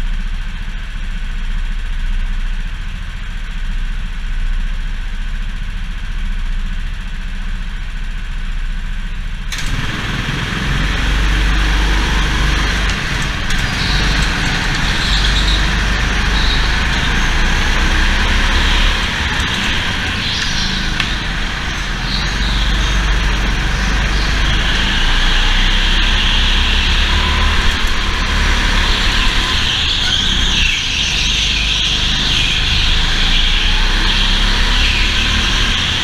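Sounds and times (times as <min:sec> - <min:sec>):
go-kart engine rumble: 0:00.0 - 0:36.0.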